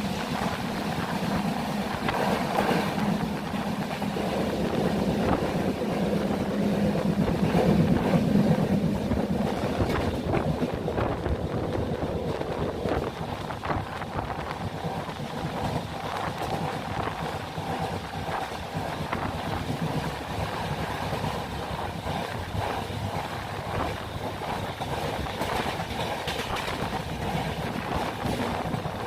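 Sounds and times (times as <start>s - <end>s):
train rumbling and clattering: 0.0s - 29.0s
wind noise on microphone: 0.0s - 29.0s.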